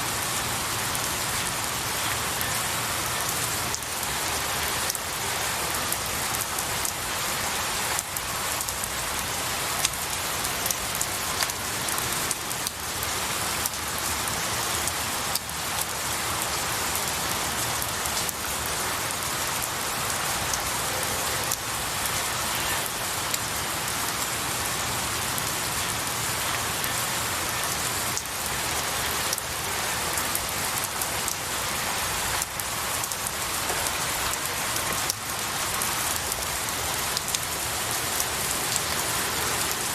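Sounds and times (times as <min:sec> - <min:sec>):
rain falling on pine branches: 0:00.0 - 0:39.9.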